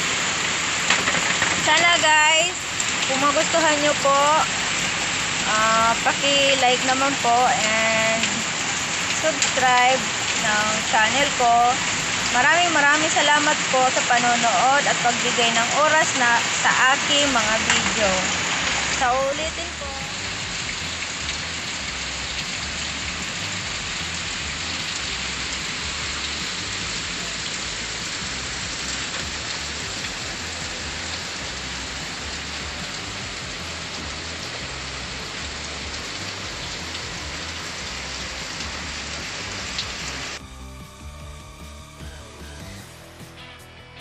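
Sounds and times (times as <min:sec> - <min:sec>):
heavy rain on a roof: 0:00.0 - 0:40.4.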